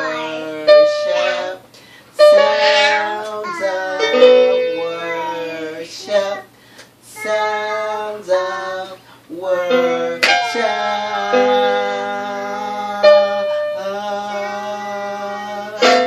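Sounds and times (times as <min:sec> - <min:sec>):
held piano chords: 0:00.0 - 0:06.5, 0:07.2 - 0:16.0
girl singing: 0:00.0 - 0:16.0.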